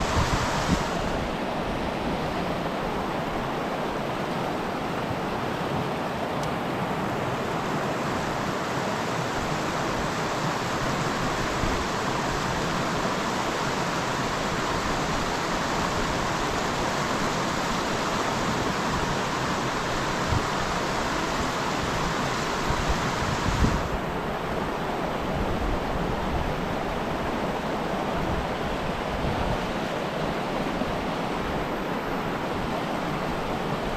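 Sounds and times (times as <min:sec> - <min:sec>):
river rapids rushing: 0:00.0 - 0:33.9.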